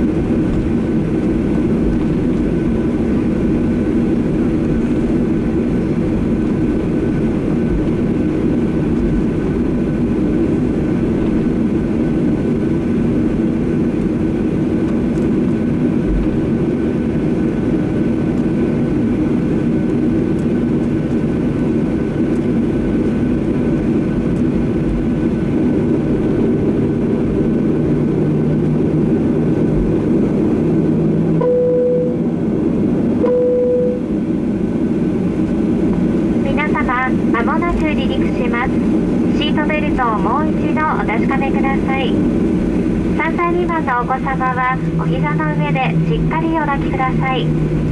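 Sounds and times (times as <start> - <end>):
airplane cabin drone: 0.0 - 47.9.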